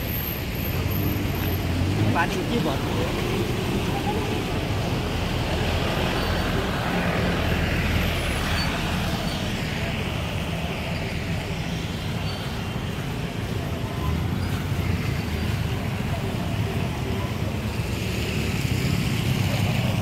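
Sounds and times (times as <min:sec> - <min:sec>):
traffic rumble on wet road: 0:00.0 - 0:20.0.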